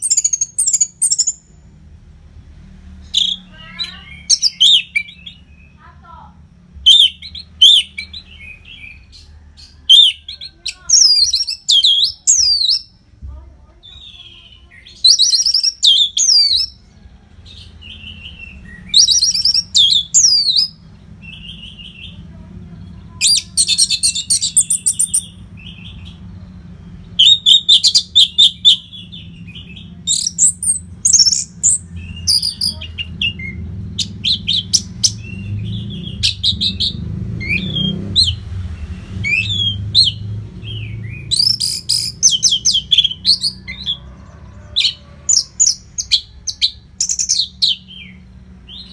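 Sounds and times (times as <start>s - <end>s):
thrush singing whistles and trills: 0.0s - 1.6s, 3.0s - 5.8s, 6.8s - 13.0s, 14.0s - 16.9s, 17.5s - 22.2s, 23.2s - 48.9s.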